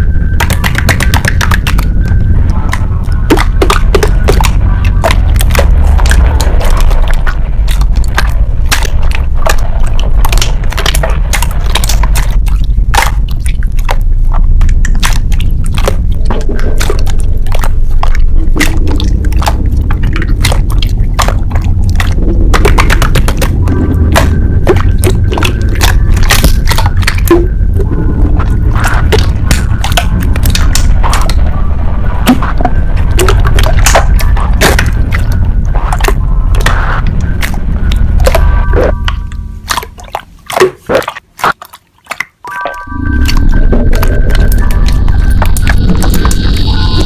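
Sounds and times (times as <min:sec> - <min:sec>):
low drone: 0:00.0 - 0:40.4, 0:42.5 - 0:47.0
slime crackling and squishing: 0:00.0 - 0:47.0.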